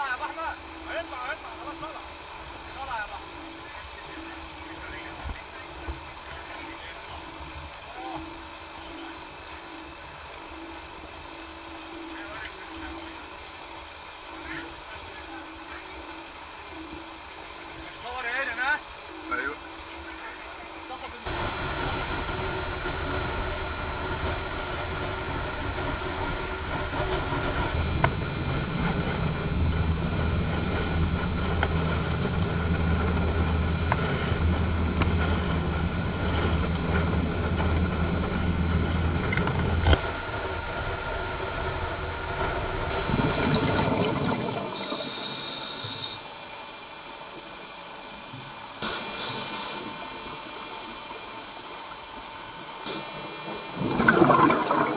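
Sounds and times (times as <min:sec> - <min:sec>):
engine rumble with hiss: 0:00.0 - 0:54.9.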